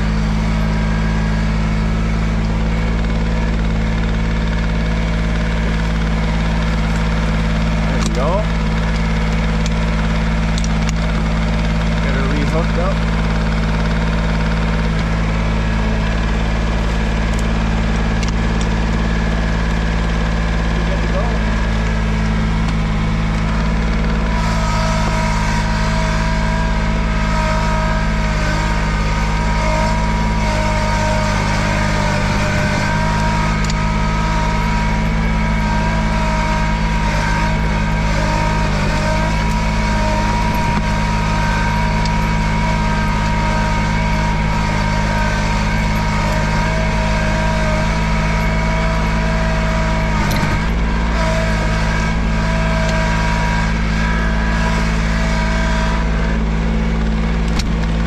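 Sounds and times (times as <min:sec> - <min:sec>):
garden tractor engine under load: 0:00.0 - 0:58.0
steady whine: 0:00.0 - 0:58.0.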